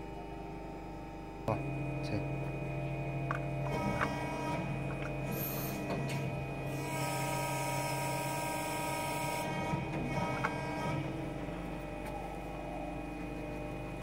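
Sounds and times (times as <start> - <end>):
machine hum with motor whine: 0.0 - 14.0.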